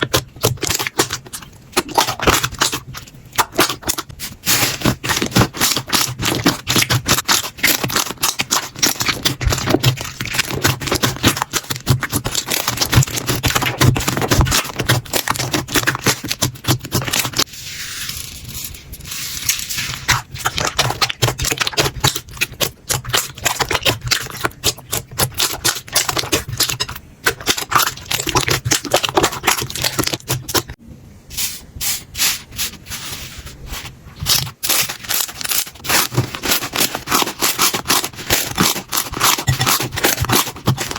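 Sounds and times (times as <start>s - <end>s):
slime crackling and popping: 0.0s - 17.5s, 19.0s - 30.8s, 34.2s - 40.9s.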